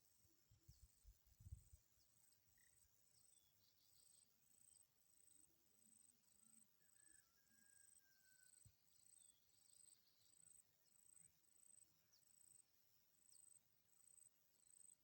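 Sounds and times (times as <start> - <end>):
insect chirping: 0.0 - 7.2, 9.0 - 15.0.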